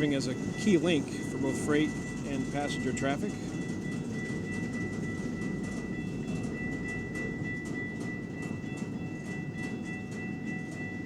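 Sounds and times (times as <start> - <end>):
freight train rumbling past: 0.0 - 11.0
wheels clicking on rails: 0.0 - 11.0.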